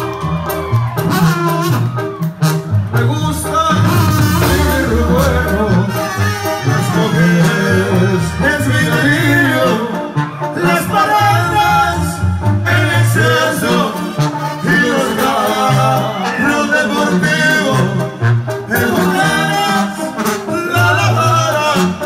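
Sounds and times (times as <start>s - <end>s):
brass band music: 0.0s - 22.0s
sousaphone bass line: 1.0s - 22.0s
man singing into microphone: 3.0s - 22.0s.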